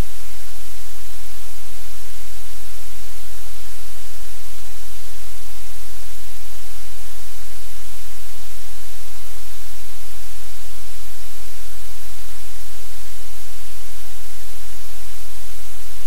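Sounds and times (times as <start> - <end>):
loud static hiss: 0.0 - 16.0.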